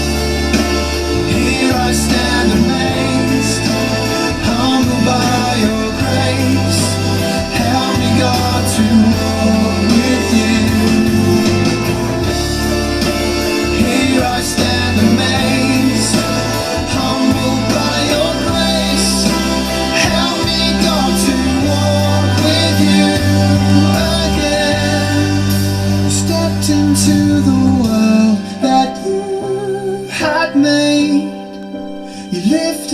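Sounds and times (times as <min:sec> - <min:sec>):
instrumental backing: 0:00.0 - 0:32.9
worship song singing: 0:00.0 - 0:32.9.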